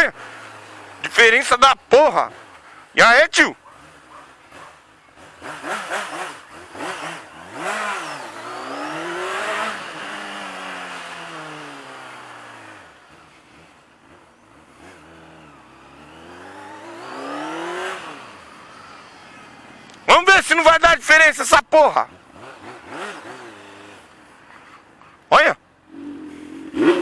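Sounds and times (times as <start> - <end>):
motorcycle engine revving: 0.0 - 2.7, 3.6 - 20.6, 21.9 - 24.8, 25.8 - 27.0.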